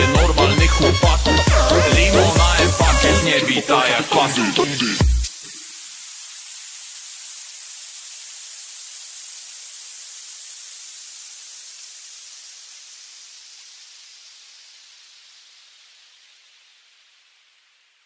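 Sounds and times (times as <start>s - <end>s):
white noise hiss: 0.9s - 18.0s.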